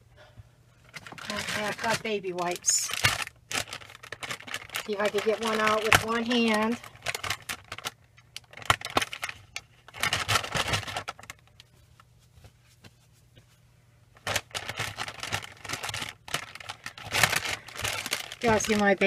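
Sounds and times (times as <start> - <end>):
plastic package clicking and crinkling: 0.8 - 11.7, 14.2 - 19.0.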